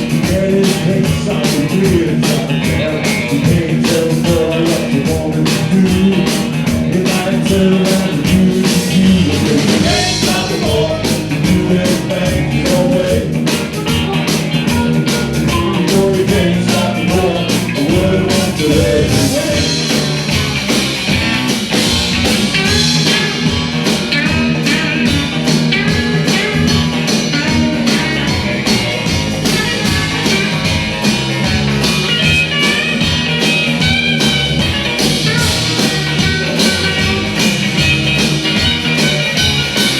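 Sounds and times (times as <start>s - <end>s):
live rock and roll band: 0.0s - 39.9s.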